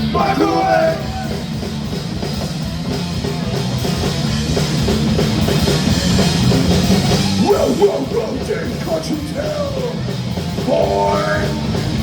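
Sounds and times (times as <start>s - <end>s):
punk rock band playing: 0.0s - 12.0s.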